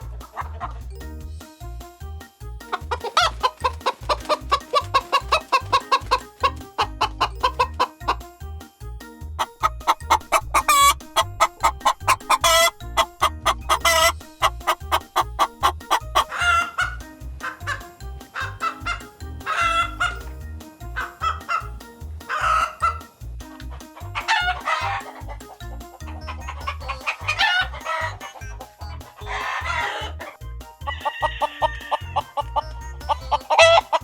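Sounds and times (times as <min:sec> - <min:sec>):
chickens clucking: 0:00.0 - 0:00.8, 0:02.6 - 0:08.3, 0:09.4 - 0:34.0.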